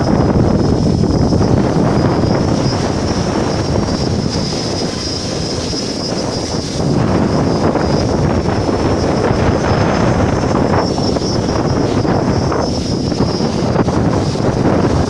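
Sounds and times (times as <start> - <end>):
drone propellers whining: 0.0 - 15.0
wind buffeting microphone: 0.0 - 15.0.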